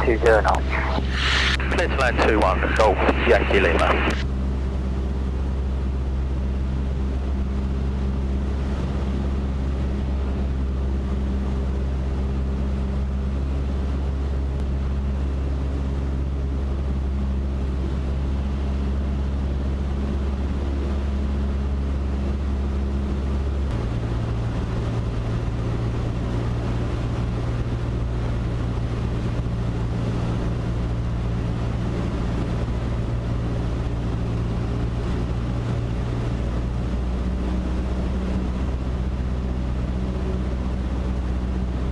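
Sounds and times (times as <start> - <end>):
small airplane engine running: 0.0 - 41.9.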